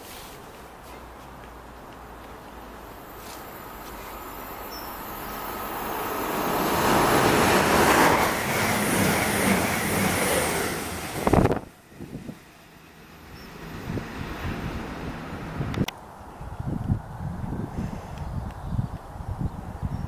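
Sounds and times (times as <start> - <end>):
train passing at speed: 1.6 - 17.7.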